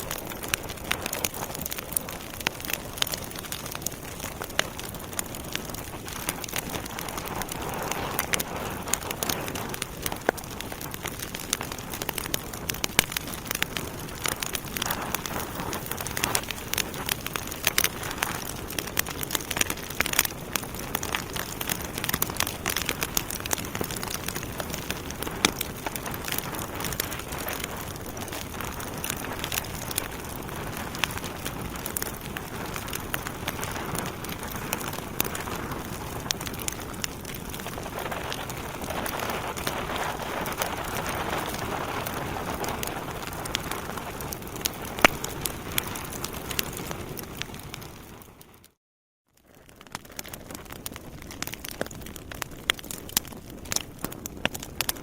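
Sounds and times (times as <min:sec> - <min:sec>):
wood fire crackling in fireplace: 0:00.0 - 0:48.8, 0:49.4 - 0:55.0.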